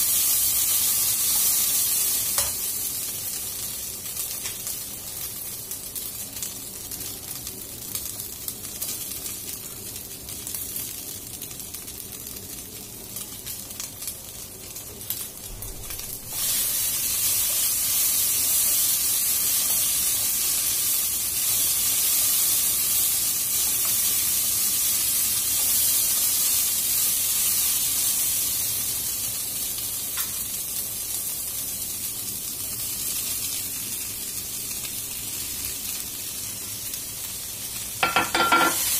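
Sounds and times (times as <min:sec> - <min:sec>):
beef and onion sizzling in a pan: 0:00.0 - 0:38.9.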